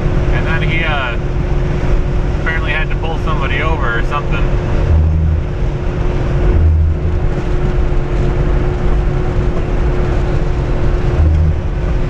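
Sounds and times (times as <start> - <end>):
road rumble: 0.0 - 12.0
van engine droning: 0.0 - 12.0.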